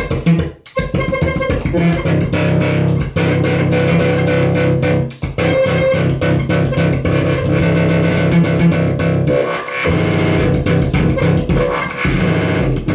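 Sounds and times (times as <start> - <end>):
bass guitar playing: 0.0 - 12.9
guitar playing: 0.8 - 12.5.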